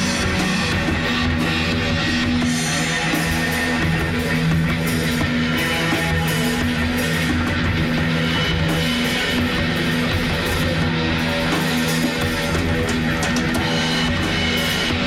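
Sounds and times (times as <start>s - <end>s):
band playing heavy rock: 0.0s - 15.0s.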